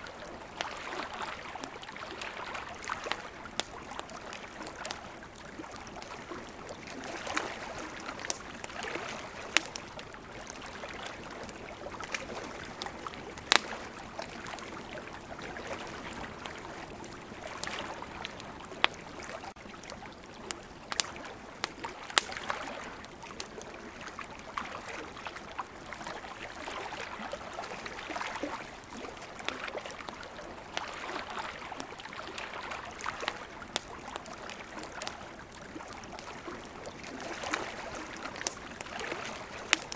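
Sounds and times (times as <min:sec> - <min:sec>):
ocean waves: 0:00.0 - 0:19.6, 0:23.8 - 0:39.9
campfire crackling and popping: 0:00.0 - 0:39.9.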